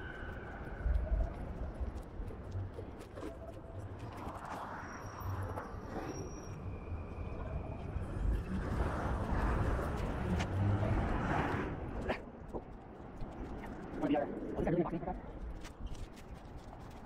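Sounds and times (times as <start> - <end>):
low rumble of cars: 0.0 - 17.0.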